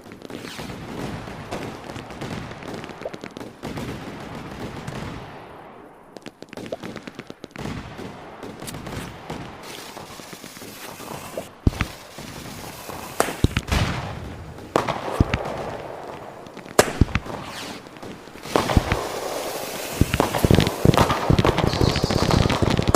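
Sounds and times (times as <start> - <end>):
fireworks crackling and popping: 0.0 - 22.9.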